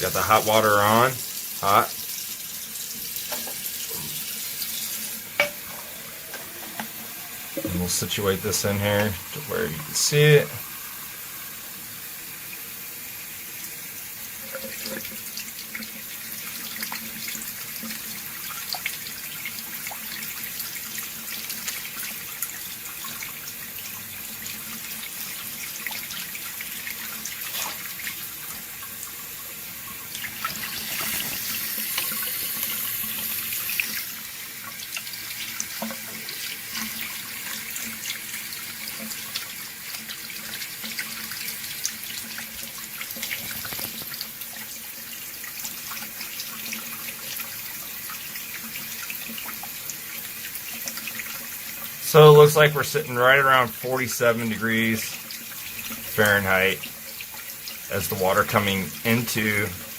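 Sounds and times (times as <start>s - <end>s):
faucet running into a glass: 0.0s - 59.9s.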